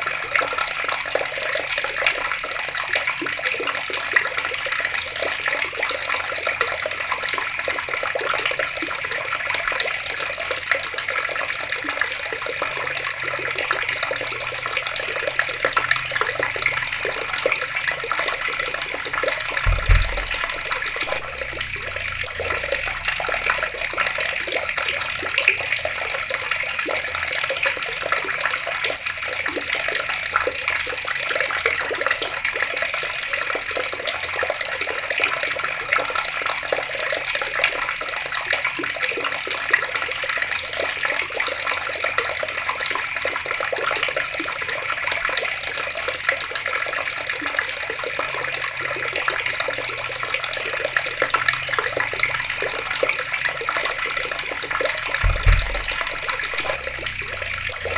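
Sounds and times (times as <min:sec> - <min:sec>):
water pouring from tap: 0:00.0 - 0:57.9.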